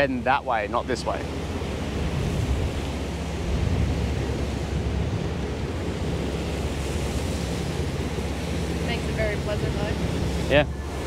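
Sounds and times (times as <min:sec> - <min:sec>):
boat engine hum: 0:00.0 - 0:11.0
water rushing along hull: 0:00.0 - 0:11.0
wind buffeting microphone: 0:00.0 - 0:11.0.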